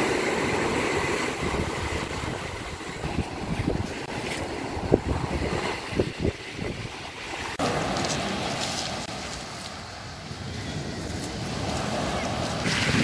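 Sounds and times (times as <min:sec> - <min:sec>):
wind buffeting microphone: 0:00.0 - 0:07.8, 0:10.2 - 0:13.0
sea surf washing on shore: 0:00.0 - 0:13.0.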